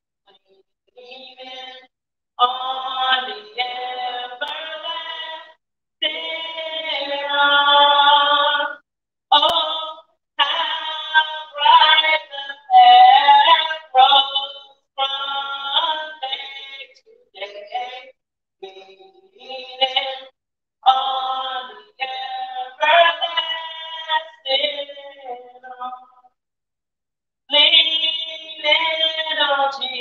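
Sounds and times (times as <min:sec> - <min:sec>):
woman singing: 0:01.0 - 0:26.2, 0:27.5 - 0:30.0.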